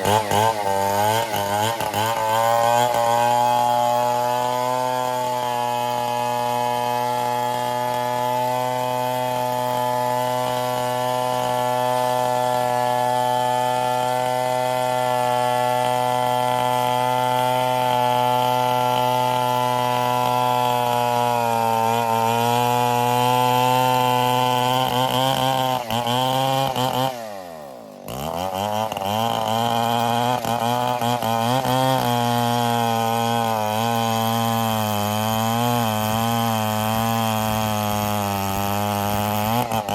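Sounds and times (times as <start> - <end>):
chainsaw running at high revs: 0.0 - 39.9.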